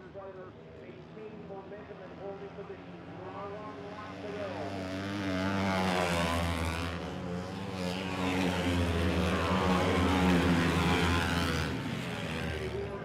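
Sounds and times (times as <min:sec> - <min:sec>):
race motorcycle engines passing: 0:00.0 - 0:13.0.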